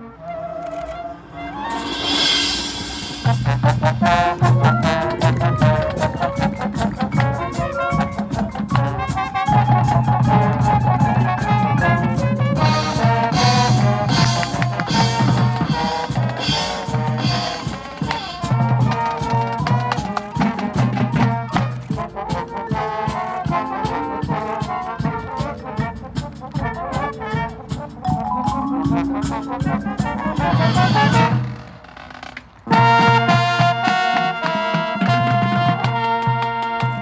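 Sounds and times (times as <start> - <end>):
marching band brass: 0.0 - 37.0
drumline percussion: 0.7 - 37.0.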